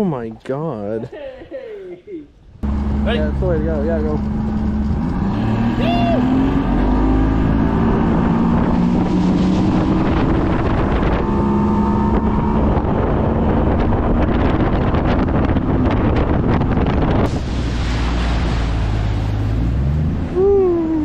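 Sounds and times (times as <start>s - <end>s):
outboard motor droning: 2.6s - 21.0s
wind buffeting microphone: 2.6s - 21.0s.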